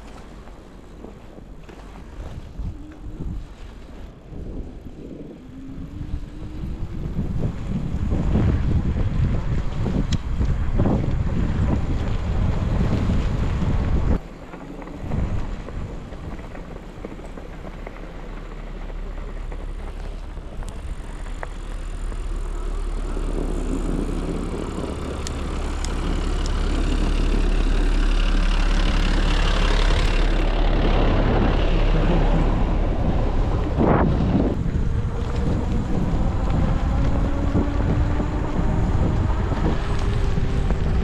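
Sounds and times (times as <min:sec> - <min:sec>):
low rumble of bike: 0:00.0 - 0:41.0
wind rushing over microphone: 0:00.0 - 0:41.0.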